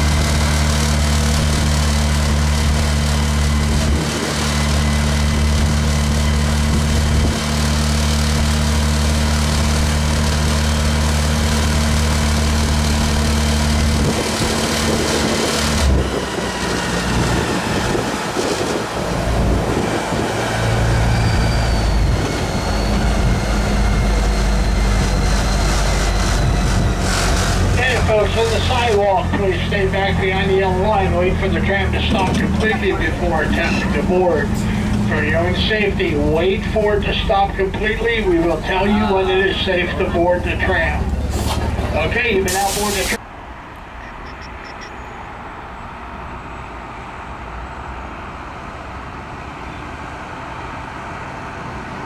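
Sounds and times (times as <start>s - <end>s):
tram engine running: 0.0s - 52.0s.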